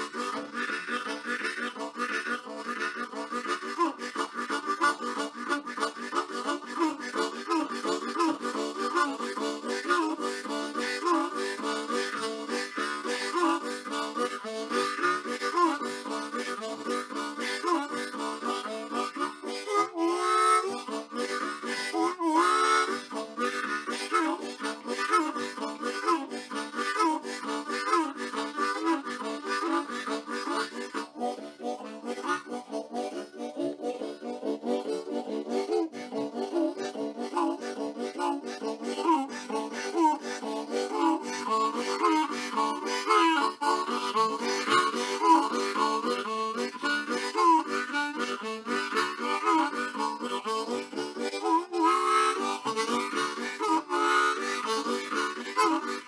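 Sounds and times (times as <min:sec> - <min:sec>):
harmonica music: 0:00.0 - 0:56.0.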